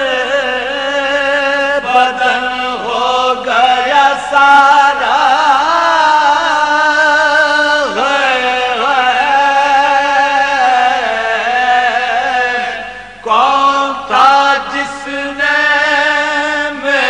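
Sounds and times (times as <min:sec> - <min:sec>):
man chanting in long held notes: 0:00.0 - 0:17.0.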